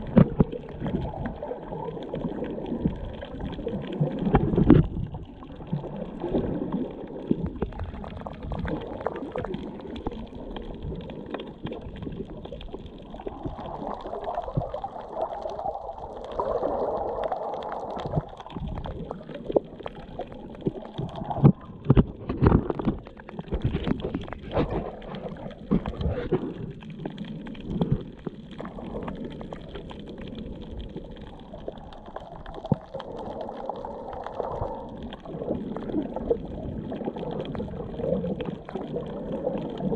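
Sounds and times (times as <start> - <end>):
muffled water gurgling underwater: 0.0 - 39.9.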